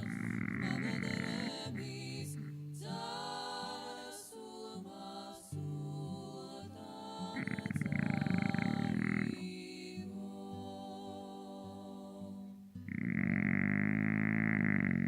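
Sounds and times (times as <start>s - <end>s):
a cappella choir singing: 0.0s - 12.8s.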